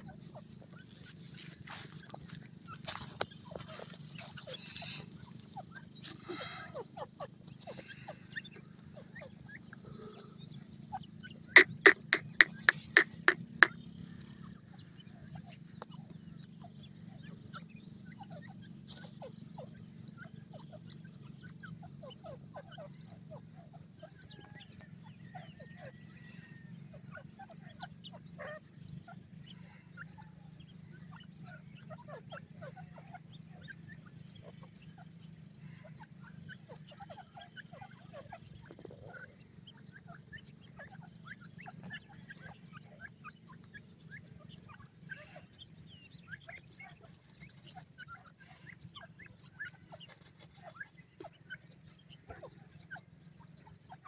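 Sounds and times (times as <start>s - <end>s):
faint chirps and ticks: 0.0s - 54.0s
high insect trill: 0.0s - 54.0s.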